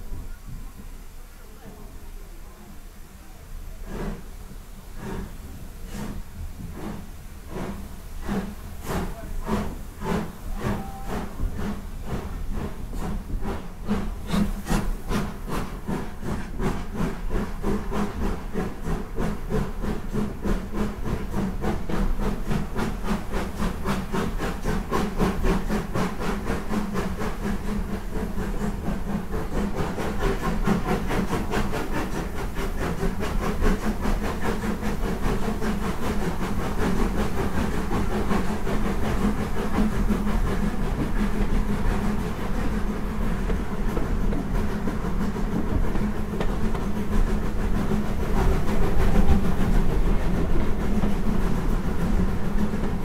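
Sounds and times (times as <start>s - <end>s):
hissing steam: 0.0s - 53.0s
steam locomotive chuffing: 0.0s - 53.0s.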